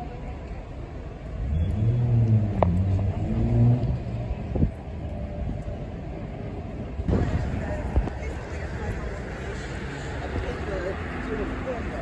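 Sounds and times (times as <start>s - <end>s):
low traffic rumble: 0.0s - 12.0s
vehicle engine hum: 0.0s - 12.0s.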